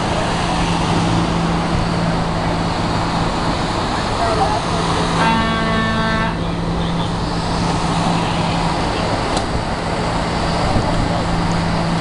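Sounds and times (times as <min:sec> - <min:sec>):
road traffic noise: 0:00.0 - 0:12.0
vehicle engines running: 0:00.0 - 0:12.0.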